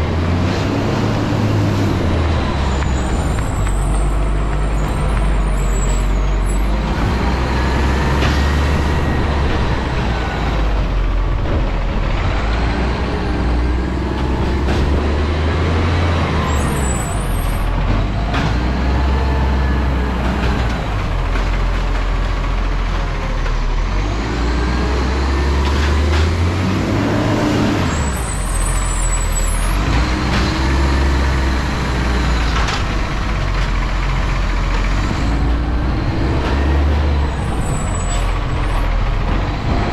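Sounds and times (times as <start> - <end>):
garbage truck engine revving: 0.0 - 39.9.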